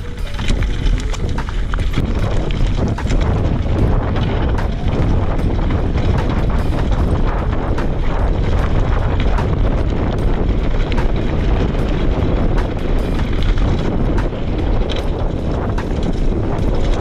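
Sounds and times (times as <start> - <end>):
bike rattling clicks: 0.0 - 17.0
tyres running over stones: 0.0 - 17.0
wind rushing over microphone: 0.0 - 17.0.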